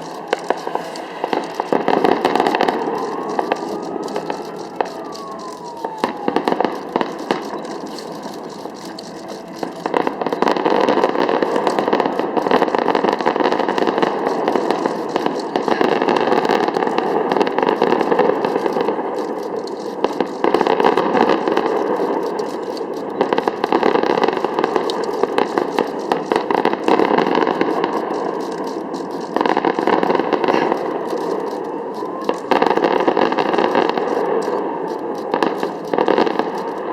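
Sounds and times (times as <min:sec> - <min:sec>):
falling firework whistle: 0:00.0 - 0:36.6
fireworks crackling: 0:00.0 - 0:36.9.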